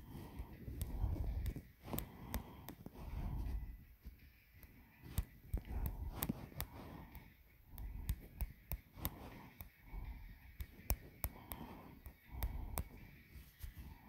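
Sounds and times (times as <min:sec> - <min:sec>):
faint breathy noise: 0:00.0 - 0:14.0.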